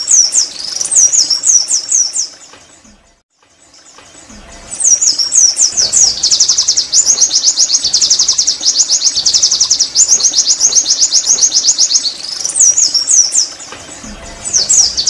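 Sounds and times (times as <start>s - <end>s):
bird twittering song: 0.0s - 15.0s.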